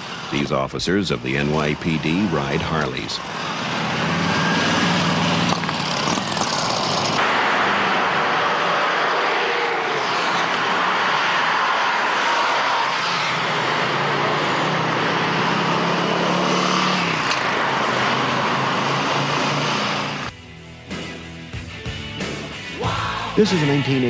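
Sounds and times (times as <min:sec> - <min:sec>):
motorcycle engines droning: 0:00.0 - 0:21.1, 0:22.2 - 0:24.0.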